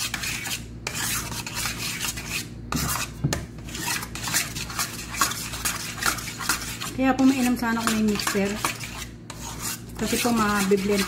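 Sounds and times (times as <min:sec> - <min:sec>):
metal spoon scraping bowl: 0:00.0 - 0:11.0.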